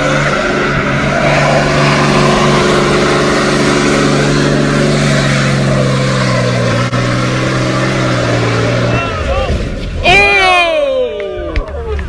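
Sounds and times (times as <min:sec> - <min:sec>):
truck engine at high revs: 0:00.0 - 0:10.1.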